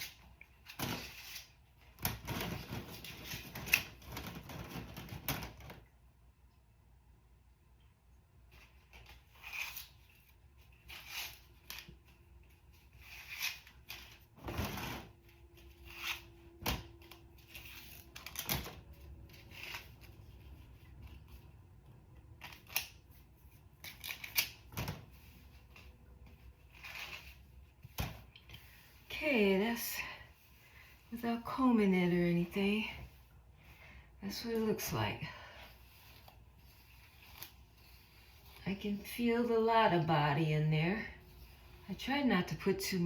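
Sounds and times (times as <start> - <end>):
rustling of hair rollers: 8.5 - 43.0.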